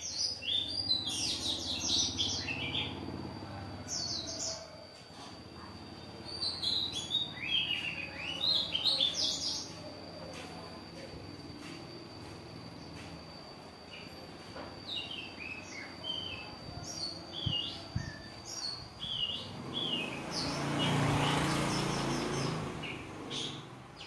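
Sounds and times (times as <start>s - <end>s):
small caged birds chirping: 0.0s - 24.0s.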